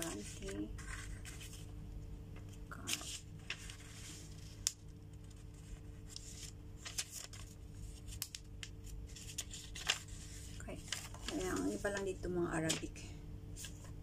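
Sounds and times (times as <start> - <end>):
paper pages rustling: 0.0 - 1.7, 2.4 - 13.0, 13.6 - 14.0
faint steady hum: 0.0 - 14.0.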